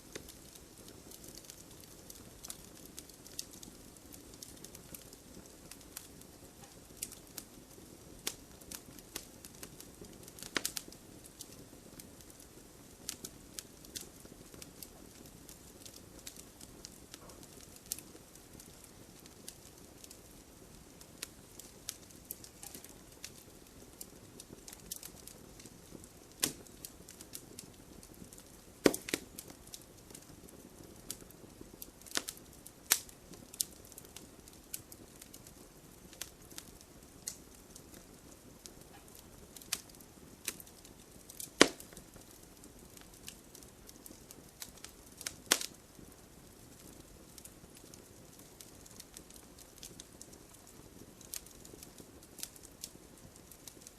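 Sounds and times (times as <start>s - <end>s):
campfire crackling: 0.0s - 53.9s
hiss of flames: 0.0s - 53.9s.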